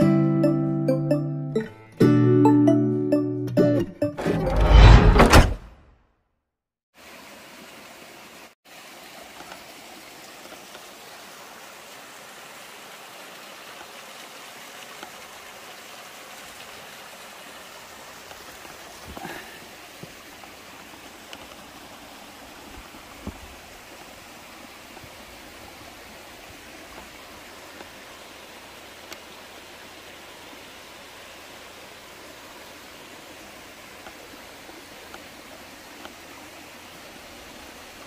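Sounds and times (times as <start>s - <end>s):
creek water rushing over rocks: 7.0s - 38.0s.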